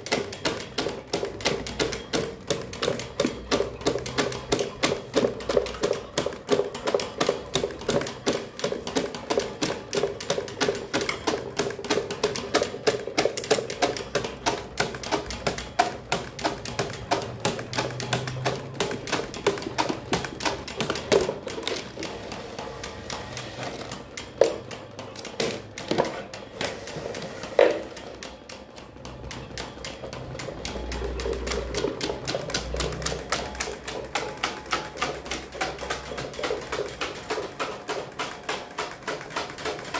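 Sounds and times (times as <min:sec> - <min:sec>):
electric fan clattering: 0:00.0 - 0:39.9.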